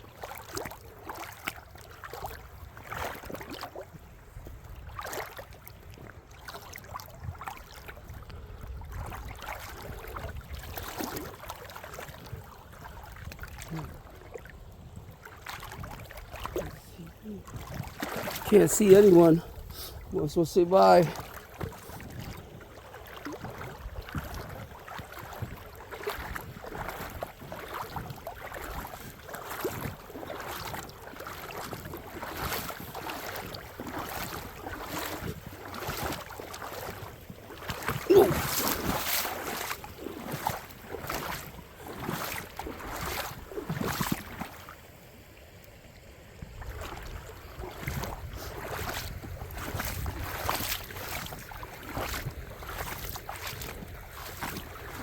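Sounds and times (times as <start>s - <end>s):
footsteps in creek bed: 0.0s - 55.0s.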